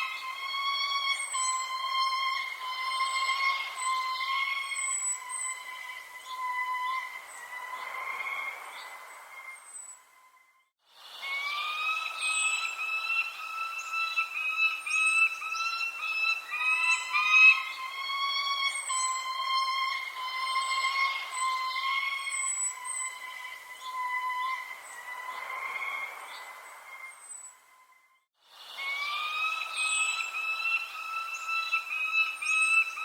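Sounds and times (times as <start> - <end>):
warbling whistled tone: 0.0 - 10.6, 11.2 - 33.0
birds chirping: 0.0 - 33.0.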